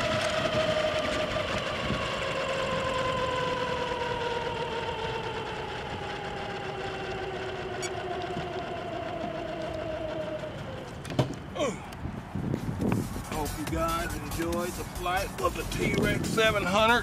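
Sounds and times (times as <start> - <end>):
helicopter rotor whine winding down: 0.0 - 11.6, 13.0 - 17.0.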